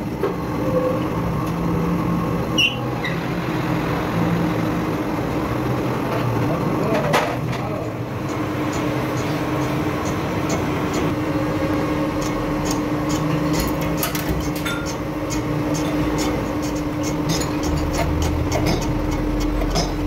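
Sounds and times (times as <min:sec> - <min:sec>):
workshop machine humming: 0:00.0 - 0:20.0.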